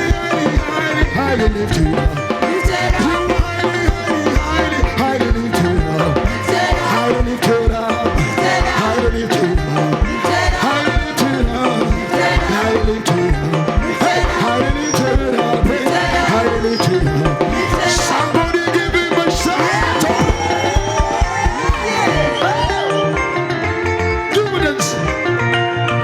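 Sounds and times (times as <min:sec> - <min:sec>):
steady drum beat: 0:00.0 - 0:23.2
worship music: 0:00.0 - 0:25.5
bass line: 0:00.0 - 0:26.0.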